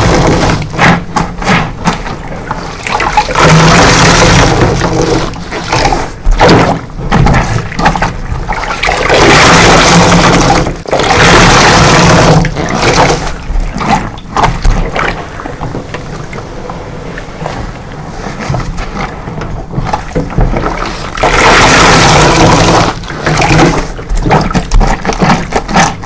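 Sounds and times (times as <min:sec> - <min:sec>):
running liquid: 0:00.0 - 0:26.0
sponge squelching: 0:00.0 - 0:26.0.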